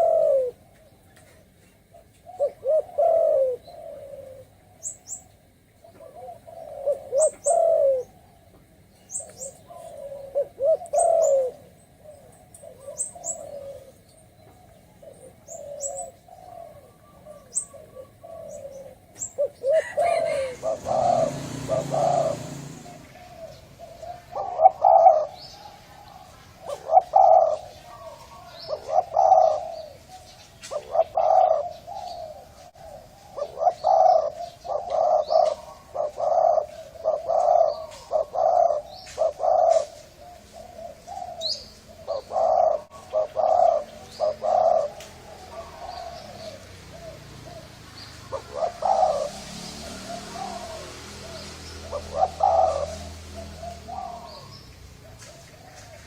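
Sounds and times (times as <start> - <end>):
dove cooing: 0.0 - 56.0
small birds chirping: 0.0 - 56.0.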